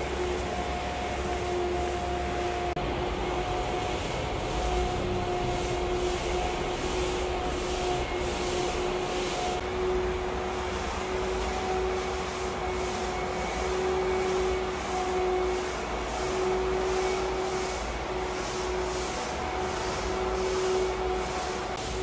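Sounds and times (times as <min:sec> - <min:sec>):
paint roller swishing on concrete: 0:00.0 - 0:22.0.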